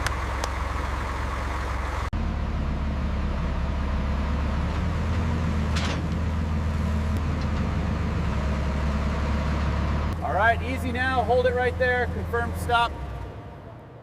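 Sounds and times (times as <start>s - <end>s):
tank engine rumbling: 0.0s - 14.0s.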